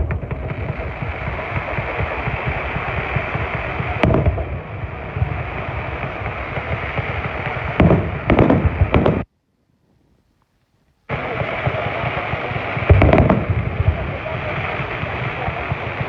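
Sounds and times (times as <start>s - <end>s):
fireworks crackling and bangs: 0.0s - 9.3s, 11.1s - 16.0s.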